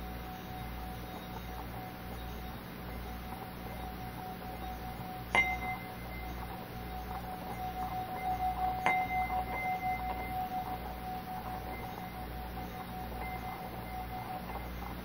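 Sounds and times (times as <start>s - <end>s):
singing bowl ringing: 0.0s - 15.0s.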